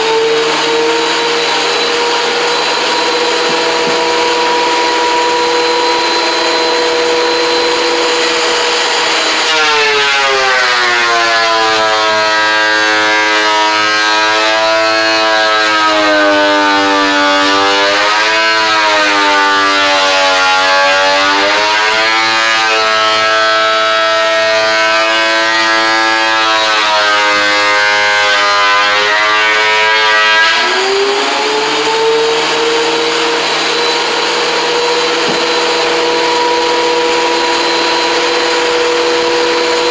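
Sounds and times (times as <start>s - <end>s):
power tool motor whining: 0.0s - 24.6s, 30.5s - 39.9s
board being cut: 0.0s - 39.9s.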